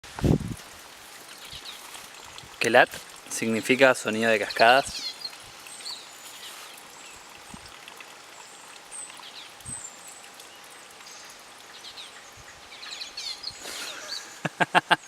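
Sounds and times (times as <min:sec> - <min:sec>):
small birds chirping: 0:01.2 - 0:14.4.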